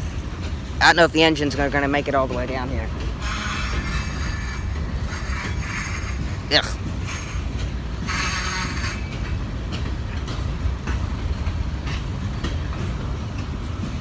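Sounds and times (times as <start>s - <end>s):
freight train rumbling: 0.0s - 14.0s
wheels clicking over rail joints: 0.0s - 14.0s.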